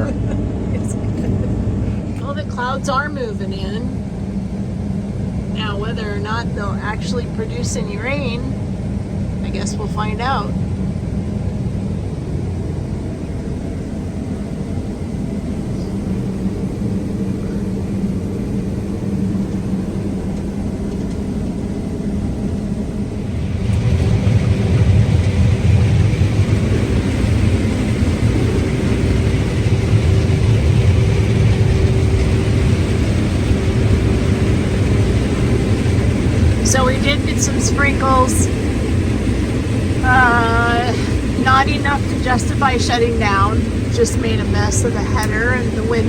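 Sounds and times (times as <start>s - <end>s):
combine harvester drone: 0.0s - 46.0s.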